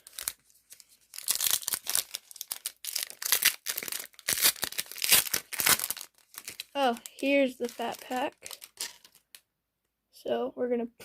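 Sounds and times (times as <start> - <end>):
card pack wrapper crinkling and tearing: 0.0 - 9.4.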